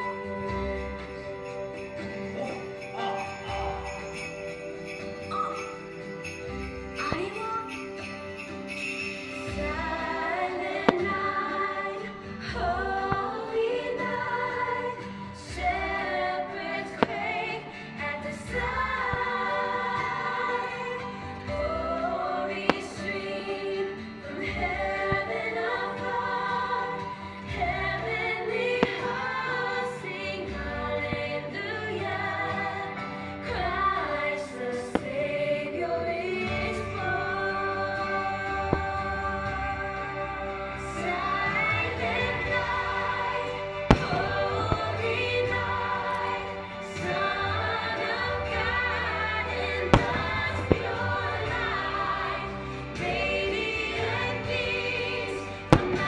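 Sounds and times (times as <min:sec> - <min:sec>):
choir singing: 0:00.0 - 0:05.0, 0:05.7 - 0:56.0.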